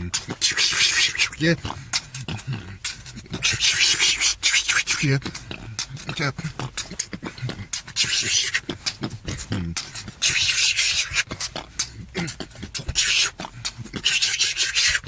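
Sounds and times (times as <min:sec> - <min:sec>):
beatboxing: 0:00.0 - 0:15.0.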